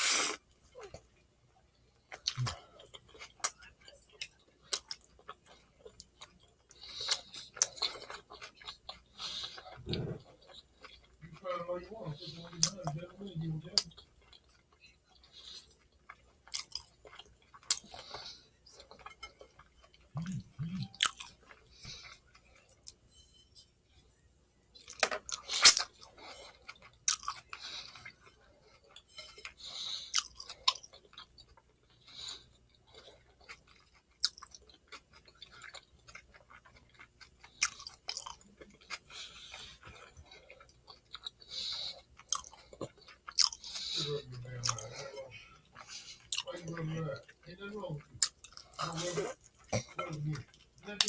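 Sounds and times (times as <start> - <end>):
close-up chewing: 0.3 - 23.1, 24.6 - 51.0.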